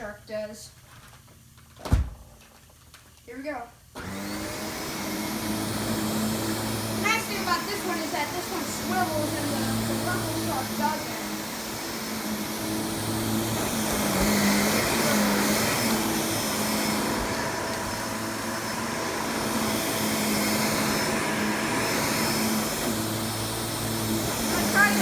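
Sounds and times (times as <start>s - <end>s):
vacuum cleaner running: 4.0s - 25.0s.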